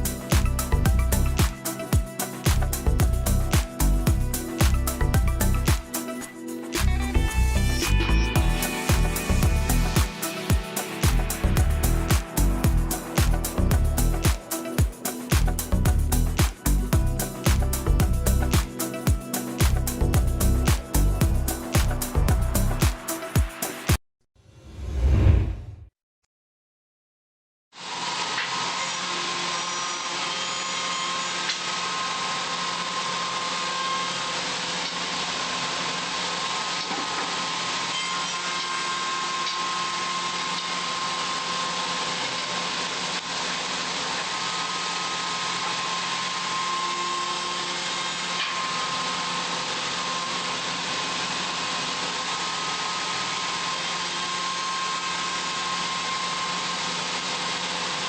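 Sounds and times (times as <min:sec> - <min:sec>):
woodworking machine whining: 0:00.0 - 0:23.8, 0:27.8 - 0:58.0.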